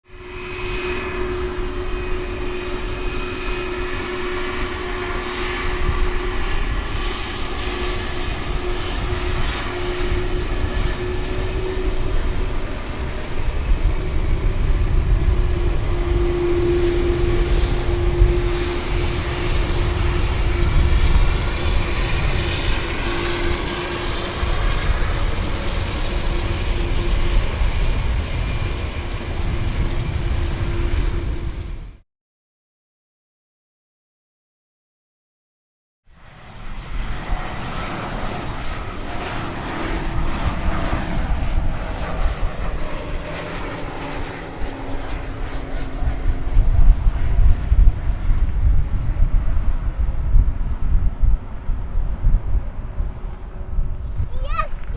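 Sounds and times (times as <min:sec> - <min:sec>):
airliner engines rumbling: 0:00.0 - 0:32.0, 0:36.1 - 0:54.9.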